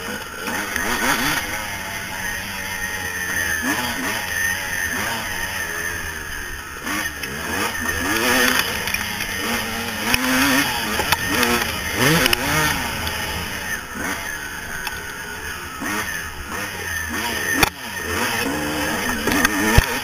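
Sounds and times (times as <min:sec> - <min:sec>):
two-stroke engine revving hard: 0:00.0 - 0:20.0.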